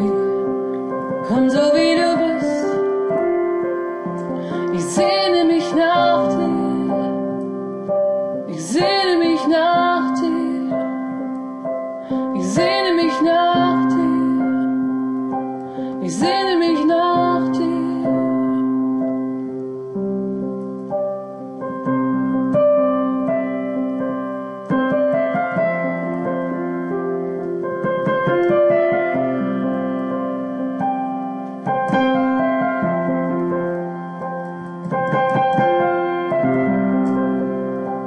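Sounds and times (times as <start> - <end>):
piano playing slow chords: 0.0 - 38.0.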